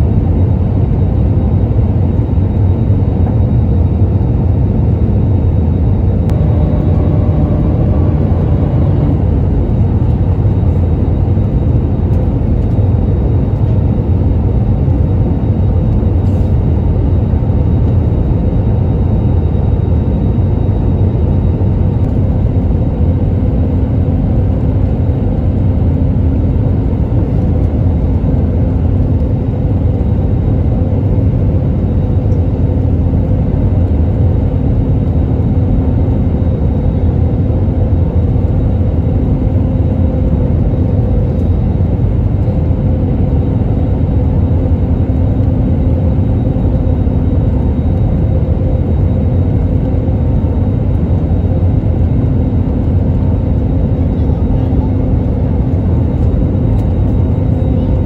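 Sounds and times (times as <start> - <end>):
airliner cabin rumble: 0.0 - 58.0
low engine hum: 0.0 - 58.0.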